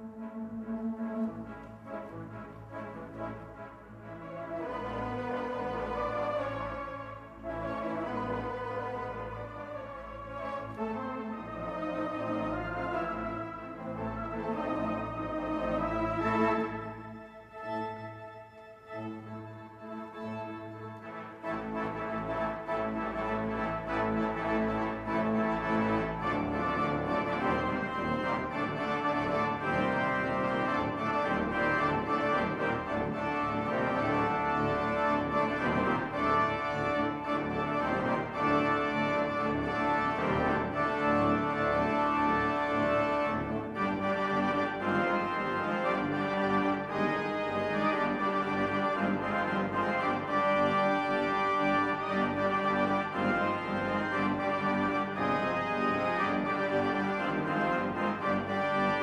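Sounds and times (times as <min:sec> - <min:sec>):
held organ-like chords: 0:00.0 - 0:59.0.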